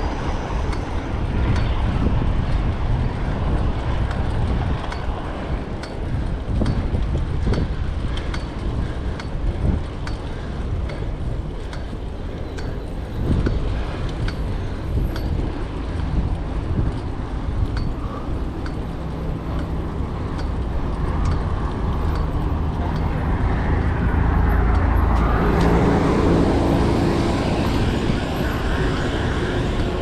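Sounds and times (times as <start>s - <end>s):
light ticks from rolling bicycle: 0.0s - 30.0s
wind buffeting microphone: 0.0s - 30.0s.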